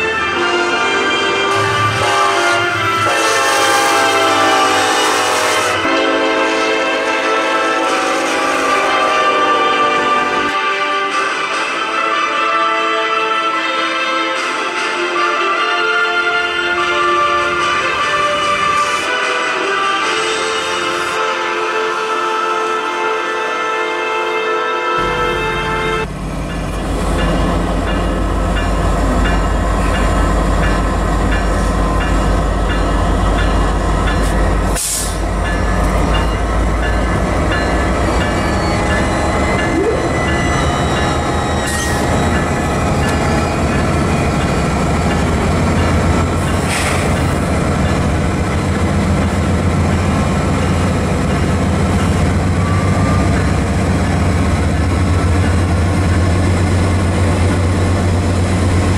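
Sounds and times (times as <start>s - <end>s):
train rumbling on rails: 0.0s - 12.7s, 13.3s - 21.4s, 25.0s - 58.9s
diesel locomotive engine drone: 0.0s - 22.2s, 25.0s - 58.9s.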